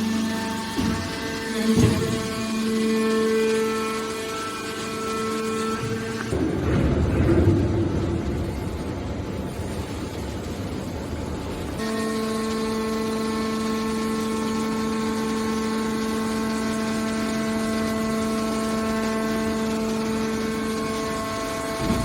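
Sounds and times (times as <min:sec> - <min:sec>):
hydraulic power unit whine: 0:00.0 - 0:22.0
machine noise: 0:00.0 - 0:22.0.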